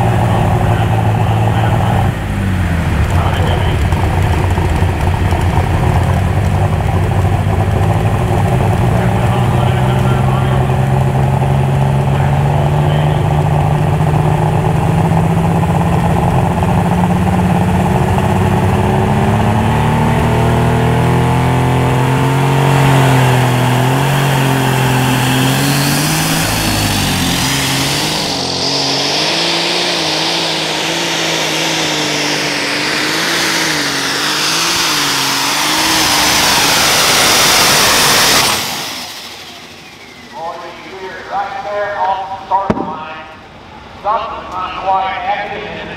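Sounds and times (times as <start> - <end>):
tractor engine running flat out: 0.0 - 45.9.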